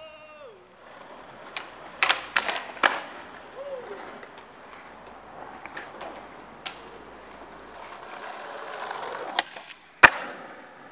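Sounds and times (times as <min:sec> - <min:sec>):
skateboard wheels rolling on concrete: 0:00.0 - 0:10.9
skateboard clacks: 0:00.8 - 0:10.9.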